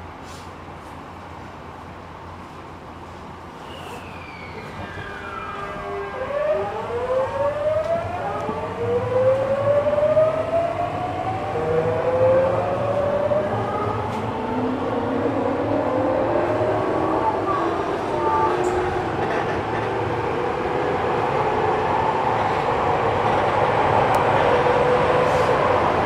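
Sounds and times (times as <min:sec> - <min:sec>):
train running noise: 0:00.0 - 0:26.0
electric train inverter whine: 0:01.4 - 0:26.0.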